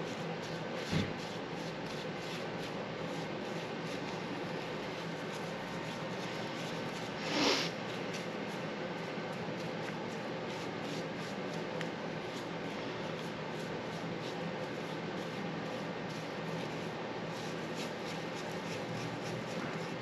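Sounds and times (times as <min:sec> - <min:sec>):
paintbrush brushing: 0:00.0 - 0:20.0.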